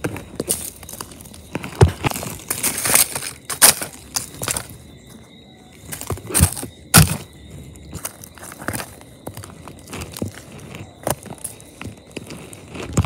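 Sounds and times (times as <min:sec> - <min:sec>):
charcoal crunching and rustling: 0:00.0 - 0:13.0.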